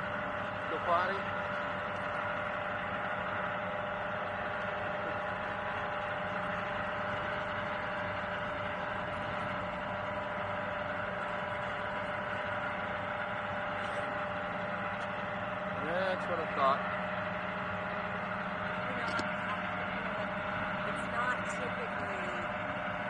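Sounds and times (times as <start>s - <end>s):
mechanical hum with whine: 0.0s - 23.0s.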